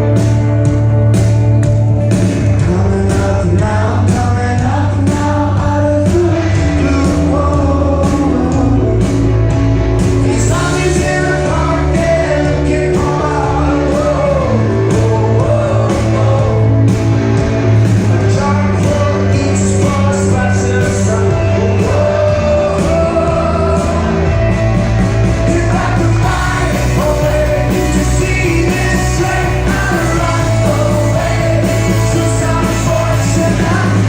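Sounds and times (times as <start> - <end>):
rock band playing live: 0.0 - 34.0
lead vocal singing: 2.3 - 34.0.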